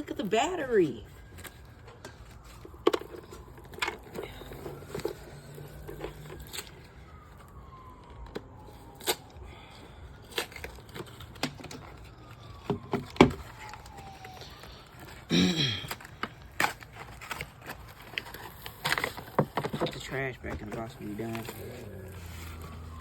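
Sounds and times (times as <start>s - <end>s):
packaging crinkling and tearing: 1.0s - 23.0s.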